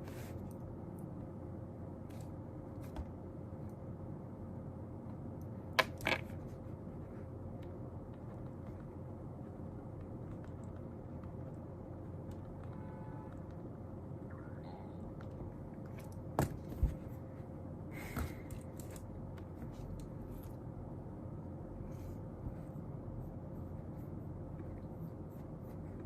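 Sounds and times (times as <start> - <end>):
faint room hum: 0.0 - 26.0.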